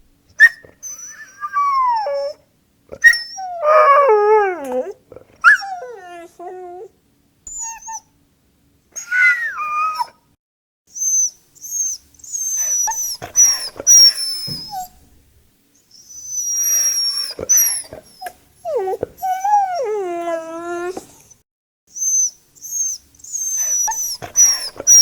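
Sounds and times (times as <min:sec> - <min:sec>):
dog whining: 0:00.4 - 0:06.9, 0:07.5 - 0:08.1, 0:09.0 - 0:10.2, 0:11.0 - 0:15.1, 0:15.9 - 0:21.4, 0:22.0 - 0:25.0.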